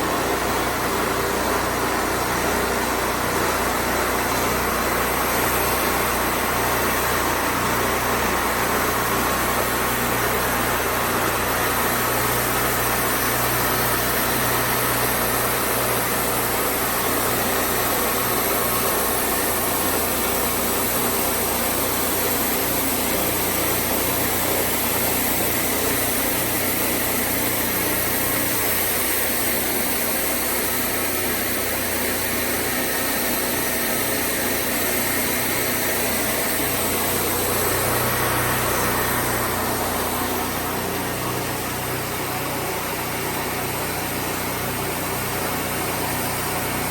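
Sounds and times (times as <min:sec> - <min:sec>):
band sawmill running: 0:00.0 - 0:46.9.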